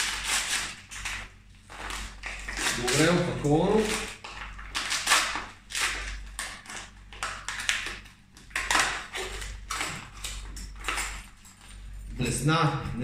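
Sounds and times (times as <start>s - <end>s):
paper crinkling and tearing: 0.0s - 12.4s.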